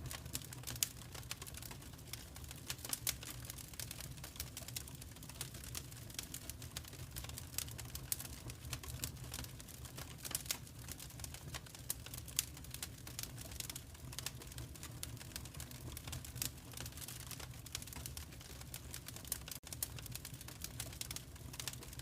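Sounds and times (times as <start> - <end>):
low steady rumble of fire: 0.0 - 22.0
wood fire crackling: 0.0 - 22.0.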